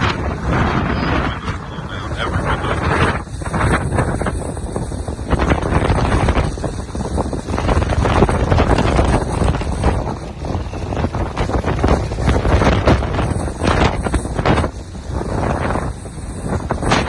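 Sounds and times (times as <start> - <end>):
deep rumble: 0.0 - 17.0
strong wind gusts: 0.0 - 17.0
wind buffeting microphone: 0.0 - 17.0.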